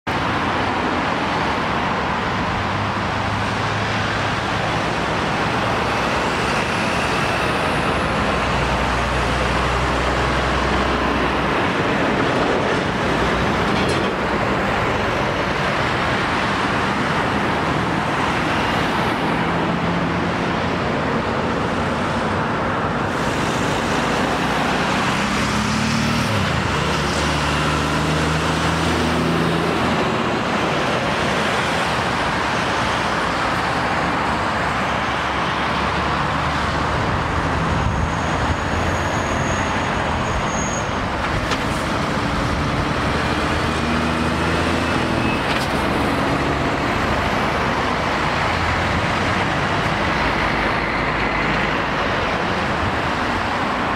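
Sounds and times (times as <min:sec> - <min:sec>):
road traffic tyre noise: 0:00.0 - 0:53.9
diesel engines humming: 0:00.1 - 0:53.9.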